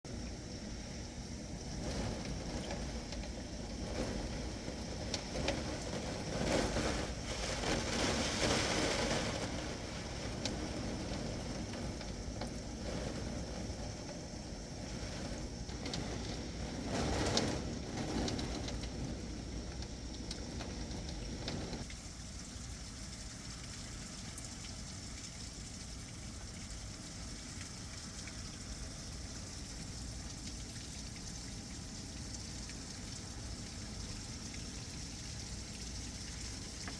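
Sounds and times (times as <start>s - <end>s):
heavy rain pouring: 0.4s - 21.9s, 23.5s - 36.9s.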